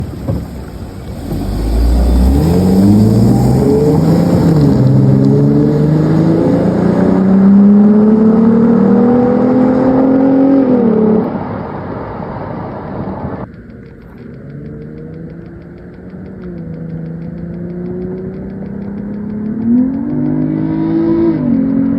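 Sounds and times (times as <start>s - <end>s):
car engine accelerating hard: 0.0s - 13.5s, 14.2s - 21.9s.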